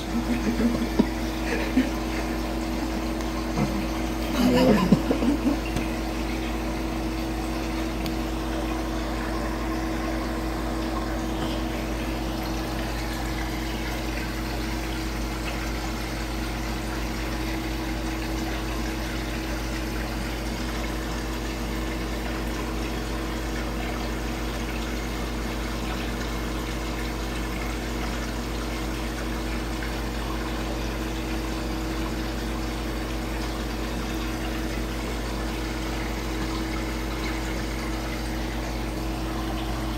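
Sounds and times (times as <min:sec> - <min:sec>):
aquarium pump humming: 0:00.0 - 0:39.9.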